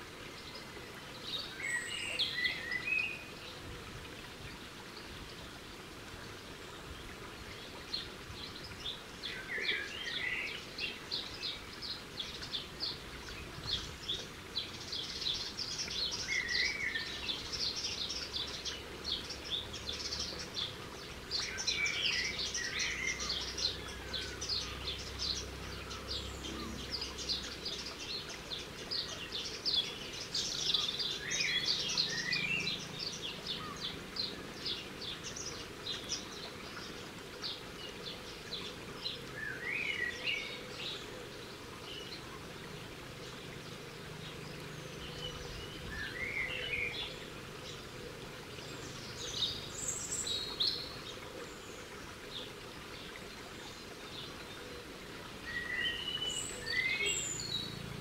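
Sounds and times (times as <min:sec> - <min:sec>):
birds chirping: 0:06.6 - 0:58.0.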